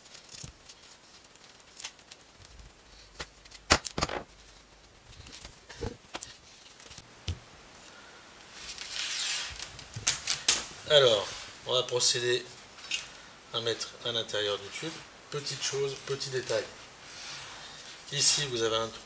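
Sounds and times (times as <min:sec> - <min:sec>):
rustling: 0:00.0 - 0:19.0.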